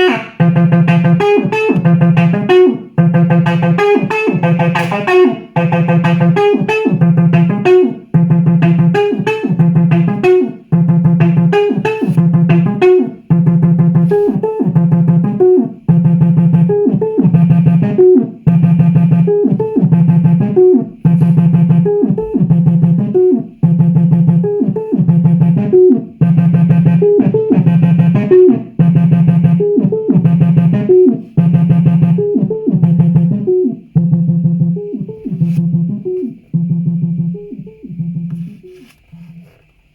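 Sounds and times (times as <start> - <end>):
synthesizer acid bassline: 0.0 - 39.4.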